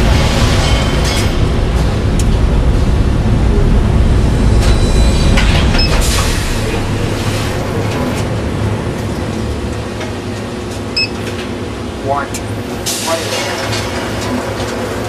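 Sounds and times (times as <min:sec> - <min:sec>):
machinery low rumble: 0:00.0 - 0:15.0.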